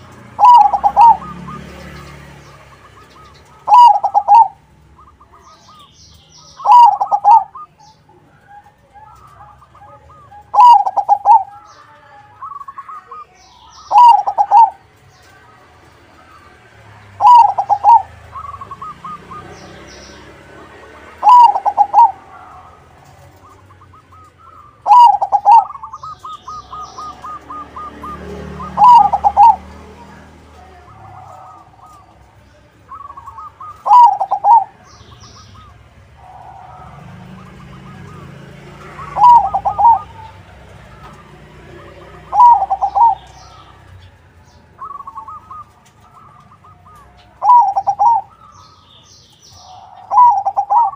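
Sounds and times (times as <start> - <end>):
dove singing rolling coo: 0.0 - 50.9.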